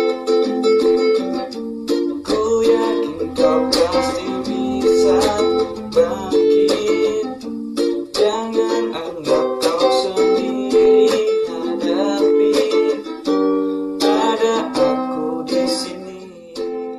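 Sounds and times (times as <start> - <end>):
strummed acoustic string chords: 0.2 - 16.9.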